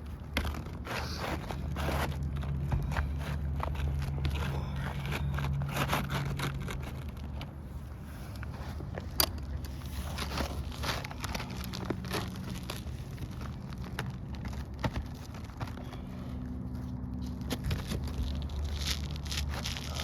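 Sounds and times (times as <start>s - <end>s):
shingle scraping and crackling: 0.0s - 20.0s.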